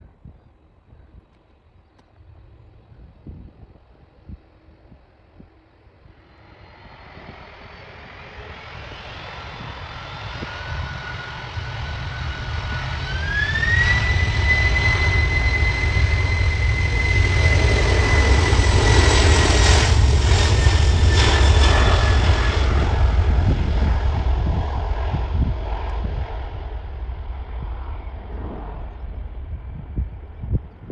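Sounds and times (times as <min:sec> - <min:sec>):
jet engines at takeoff power: 0:01.4 - 0:30.9.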